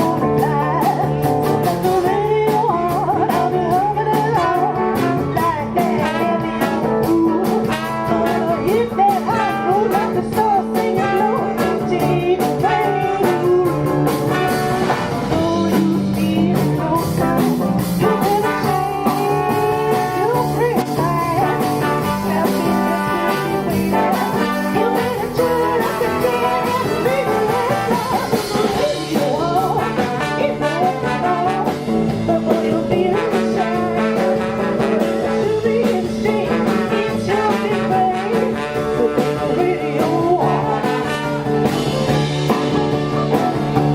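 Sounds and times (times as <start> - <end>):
guitar: 0.0 - 43.9
jazz band playing: 0.0 - 43.9
person singing: 0.0 - 43.9.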